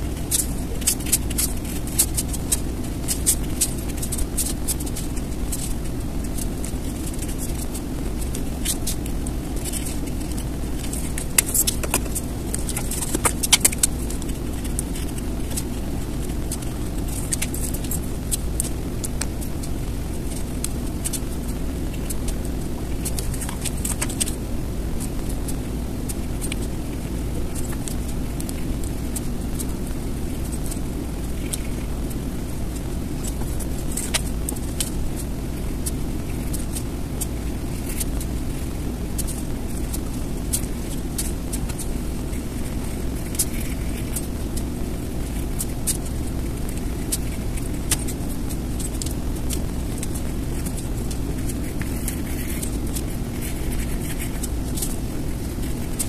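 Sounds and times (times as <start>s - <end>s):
low background rumble: 0.0s - 56.0s
marker and paper clicks: 0.0s - 56.0s.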